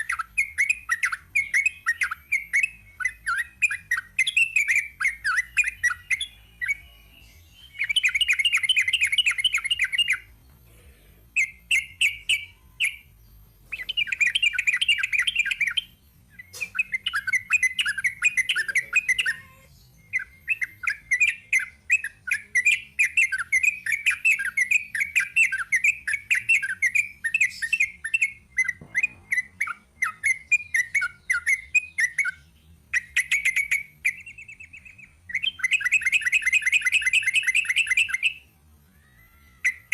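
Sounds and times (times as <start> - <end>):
bulbul singing rolling phrases: 0.0 - 39.9.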